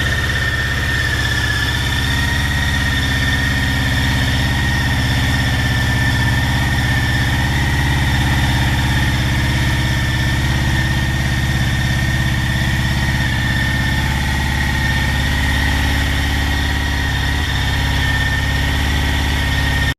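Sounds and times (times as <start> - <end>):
high whine: 0.0 - 19.9
motorcycle engine idling: 0.0 - 19.9.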